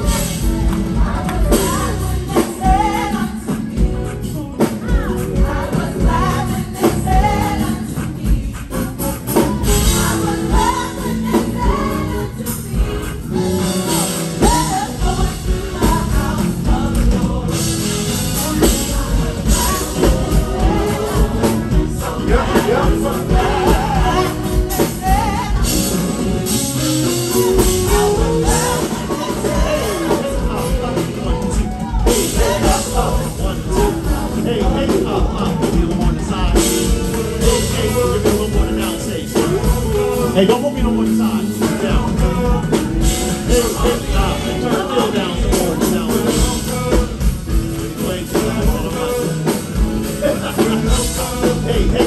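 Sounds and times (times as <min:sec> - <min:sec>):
bass guitar: 0:00.0 - 0:52.0
drum kit: 0:00.0 - 0:52.0
live band playing gospel music: 0:00.0 - 0:52.0.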